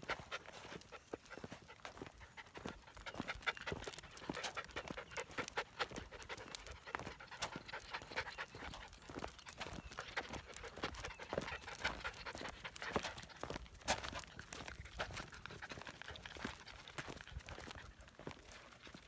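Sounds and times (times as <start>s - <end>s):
patter of footsteps and paws: 0.0s - 19.0s
puppies panting: 0.0s - 19.0s.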